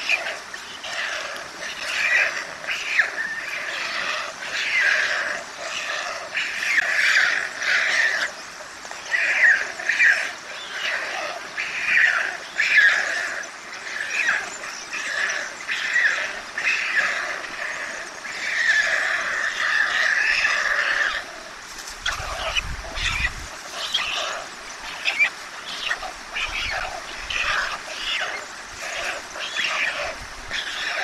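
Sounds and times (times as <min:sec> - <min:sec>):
stork chicks rasping calls: 0:00.0 - 0:31.0.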